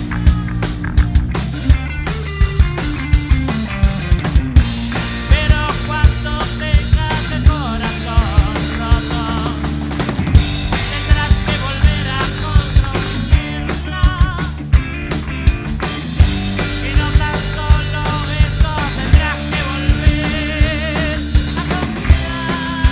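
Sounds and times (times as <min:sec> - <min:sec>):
drum kit beat: 0:00.0 - 0:22.9
rock band playing: 0:00.0 - 0:22.9.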